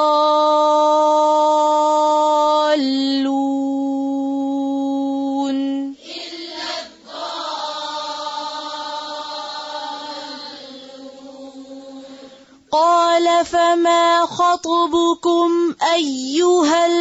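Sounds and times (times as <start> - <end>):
woman chanting recitation: 0.0 - 17.0.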